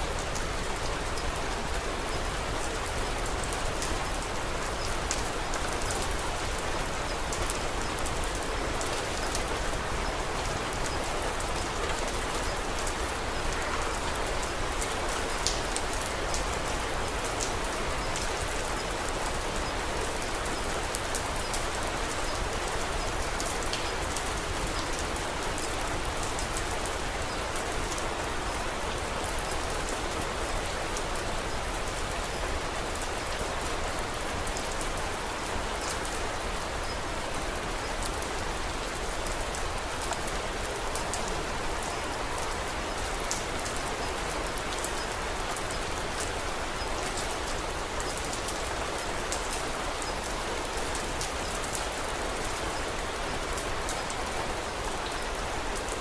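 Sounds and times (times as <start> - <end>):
small sharp ticks of raindrops: 0.0 - 56.0
steady rainfall: 0.0 - 56.0.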